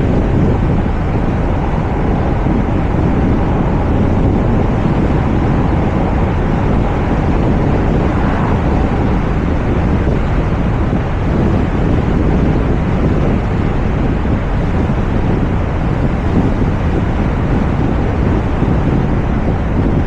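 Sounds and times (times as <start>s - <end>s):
car driving rumble: 0.0s - 19.9s
wind rushing over microphone: 0.0s - 20.0s.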